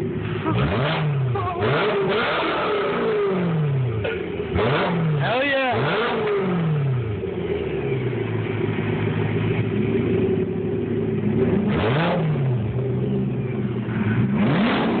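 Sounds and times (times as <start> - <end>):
sports car engine idling: 0.0 - 15.0.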